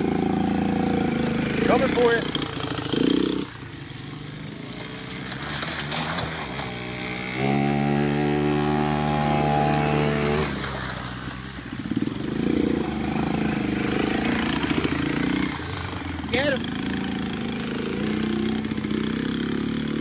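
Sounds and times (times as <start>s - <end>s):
small atv engine running: 0.0s - 20.0s.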